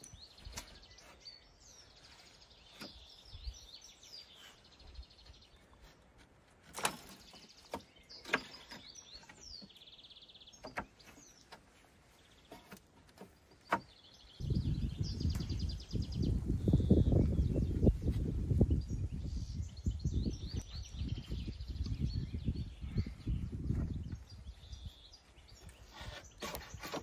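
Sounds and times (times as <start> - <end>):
small birds singing: 0.0 - 27.0.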